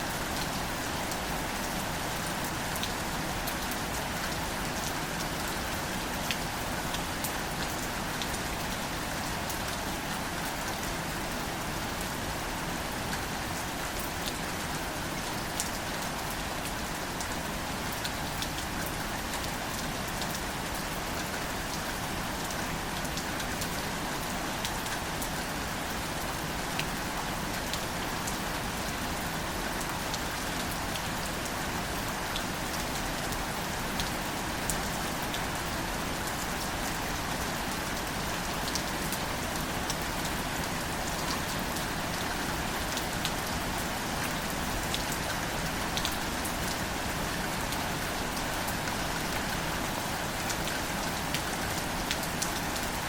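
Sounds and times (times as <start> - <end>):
rain falling on plants: 0.0 - 53.0.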